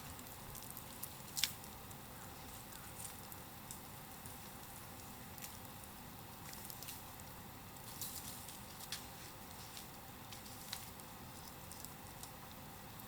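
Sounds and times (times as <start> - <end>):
bonfire crackling: 0.0 - 13.0
fire pops: 0.0 - 13.0.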